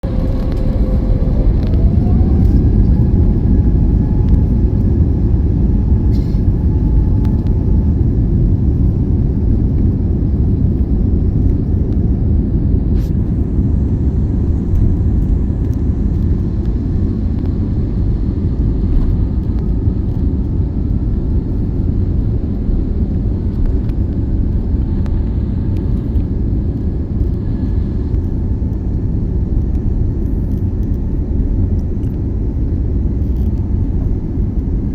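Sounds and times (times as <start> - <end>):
airplane engines rumbling: 0.0 - 34.9
rising engine whine: 0.0 - 34.9.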